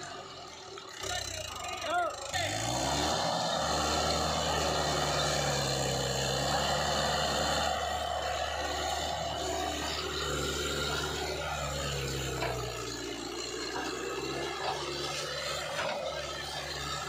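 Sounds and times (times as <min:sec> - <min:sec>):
tractor diesel engine labouring: 0:00.0 - 0:17.0.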